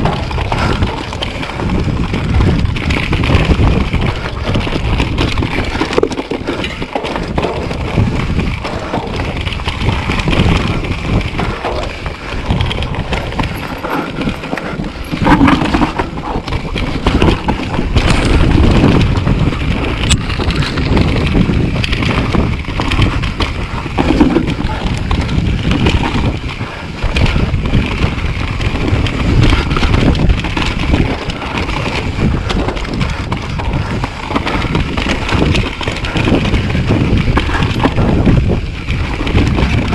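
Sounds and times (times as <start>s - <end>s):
bike knocks and rattles: 0.0s - 39.9s
bike tyres rumbling over dirt: 0.0s - 39.9s
wind buffeting microphone: 0.0s - 39.9s.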